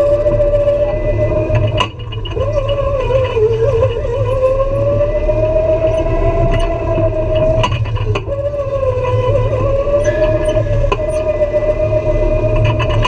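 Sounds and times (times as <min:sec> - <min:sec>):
go-kart engine whine: 0:00.0 - 0:13.0.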